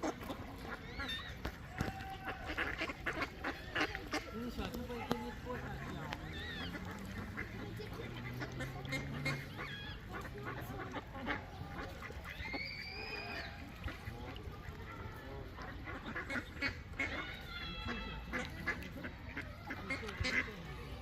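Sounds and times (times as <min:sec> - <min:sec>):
ducks quacking: 0:00.0 - 0:21.0.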